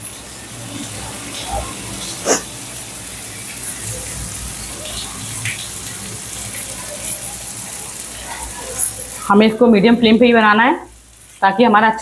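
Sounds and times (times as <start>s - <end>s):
skewers sizzling in butter: 0.0s - 12.0s.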